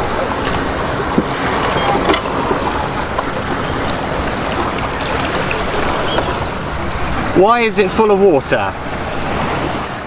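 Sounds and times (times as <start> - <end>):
sea surf: 0.0 - 10.0
wind noise on microphone: 0.0 - 10.0.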